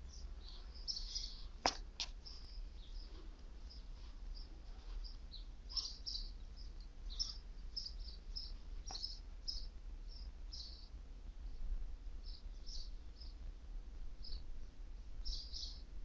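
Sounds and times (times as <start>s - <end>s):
small birds chirping: 0.0s - 13.6s, 14.2s - 16.0s
steady low rumble: 0.0s - 16.0s.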